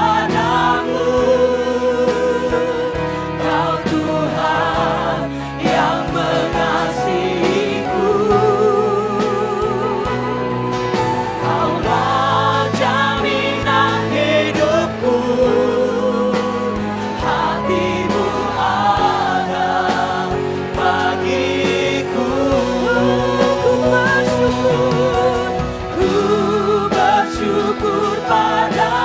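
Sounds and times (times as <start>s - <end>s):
people singing: 0.0s - 29.0s.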